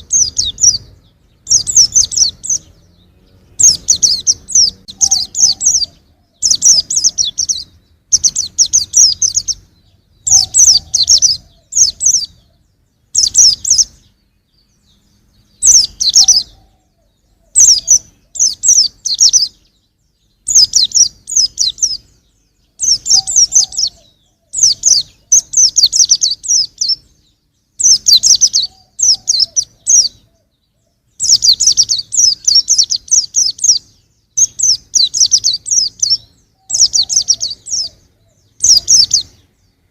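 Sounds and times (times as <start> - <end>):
bird chirping twitters: 0.0 - 39.9.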